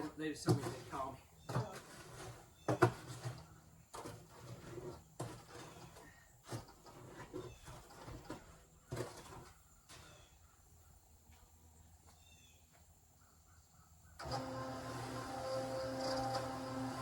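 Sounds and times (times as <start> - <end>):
outdoor ambience: 0.0 - 17.0.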